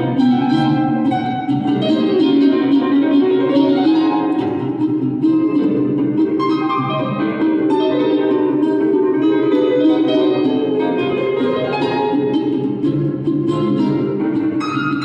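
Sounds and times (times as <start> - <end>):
fast plucked mandolin melody: 0.0 - 15.0.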